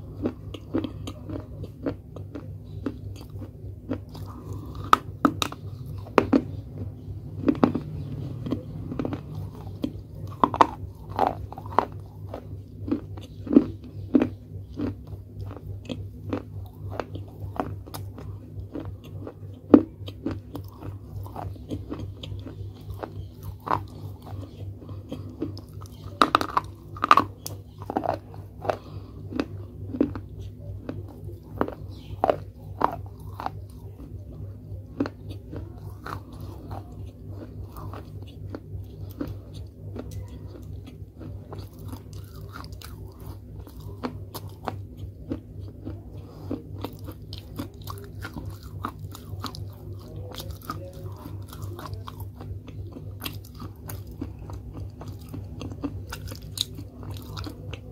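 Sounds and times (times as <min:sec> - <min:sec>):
crunching and chewing clay: 0:00.0 - 0:57.9.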